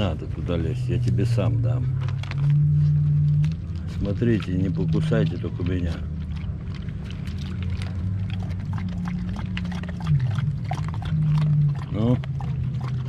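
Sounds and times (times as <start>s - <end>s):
dog chewing food: 0.0s - 13.0s
dog lapping water: 0.0s - 13.0s
steady low hum: 0.0s - 13.0s.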